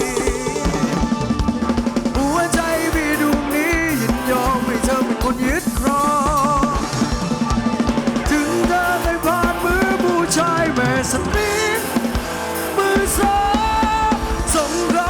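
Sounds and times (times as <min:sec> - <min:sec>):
drum kit beat: 0:00.0 - 0:15.0
wavering lead melody: 0:00.0 - 0:15.0.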